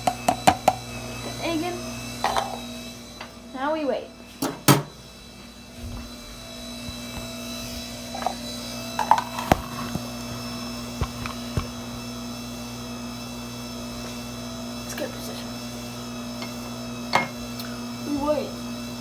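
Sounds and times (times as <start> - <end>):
pasta maker motor humming: 0.0 - 19.0.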